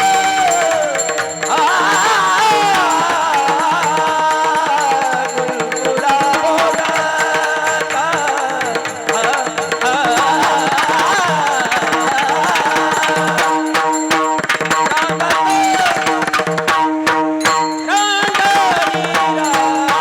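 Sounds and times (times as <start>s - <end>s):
person singing melody: 0.0s - 16.7s, 17.4s - 20.0s
sustained accompanying tones: 0.0s - 20.0s.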